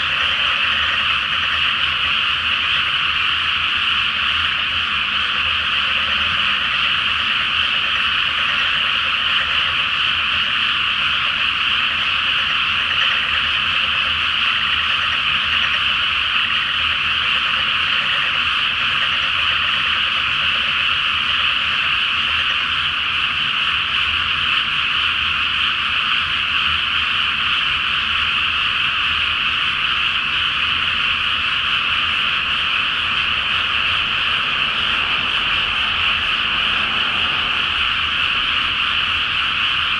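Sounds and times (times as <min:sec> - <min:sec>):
frogs chorus churring: 0:00.0 - 0:39.9.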